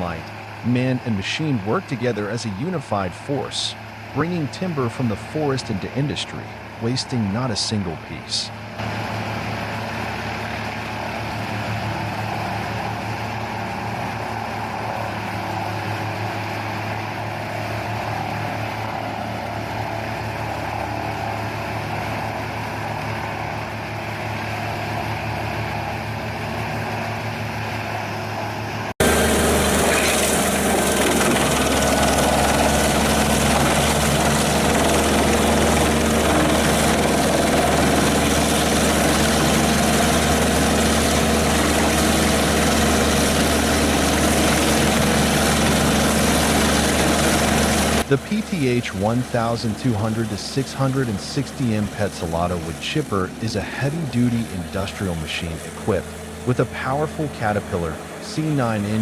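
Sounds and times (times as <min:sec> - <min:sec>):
wood chipper engine running: 0:00.0 - 0:59.0.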